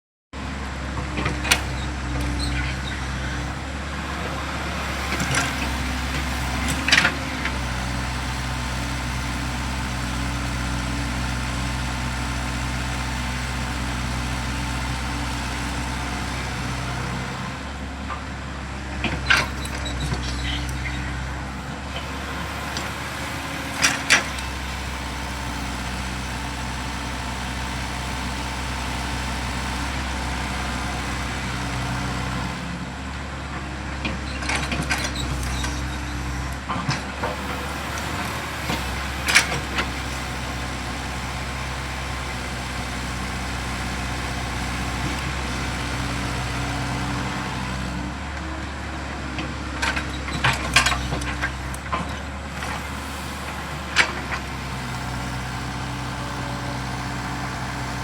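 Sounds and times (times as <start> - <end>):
diesel engine running: 0.4 - 58.0.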